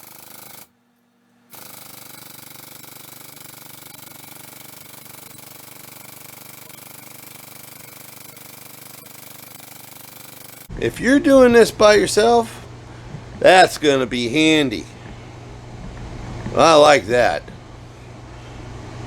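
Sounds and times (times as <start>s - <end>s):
air-driven pump chattering: 0.0s - 0.7s, 1.5s - 19.0s.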